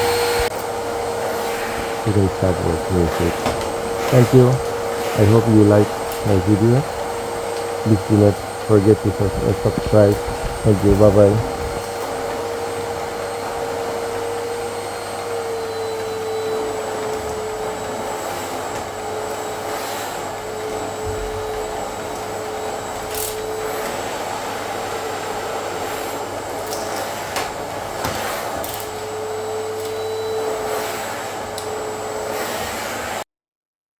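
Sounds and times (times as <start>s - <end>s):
vacuum cleaner running: 0.0s - 33.3s.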